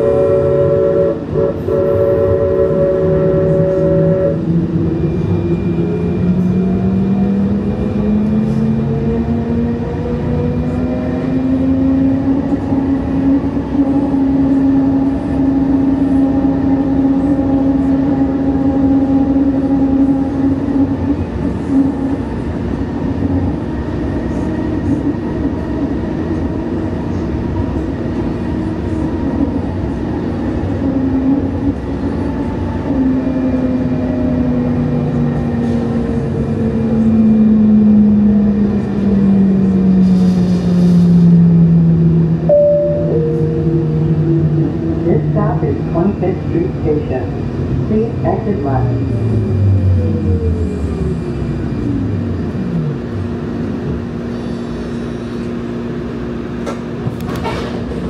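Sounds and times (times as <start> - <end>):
rail and running-gear rumble: 0.0 - 58.0.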